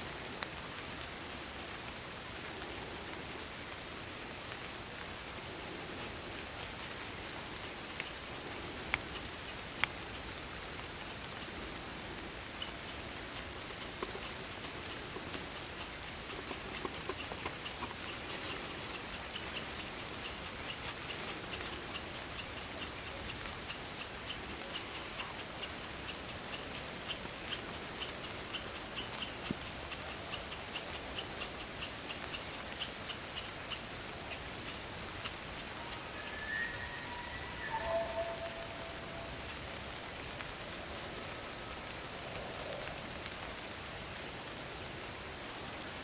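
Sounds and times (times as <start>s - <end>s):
rain and wind in trees: 0.0s - 46.0s
light irregular ticks: 0.1s - 36.7s, 42.4s - 44.5s.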